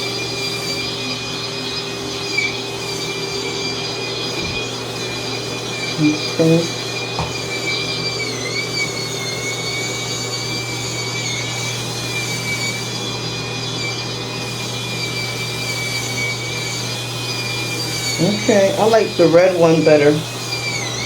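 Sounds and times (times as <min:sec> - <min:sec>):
electric scrubber motor whine: 0:00.0 - 0:21.0.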